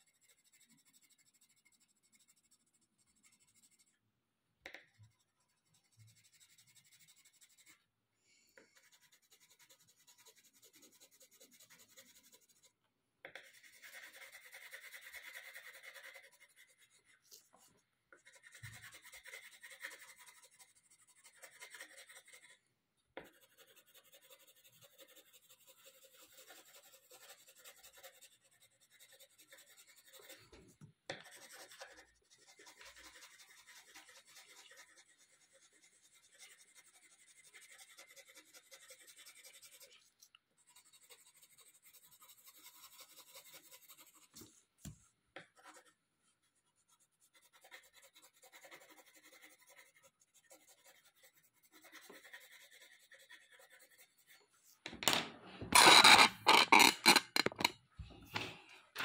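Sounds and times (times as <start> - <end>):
pencil scratching on paper: 0.0 - 4.0, 4.7 - 7.9, 8.6 - 54.8, 55.7 - 57.8.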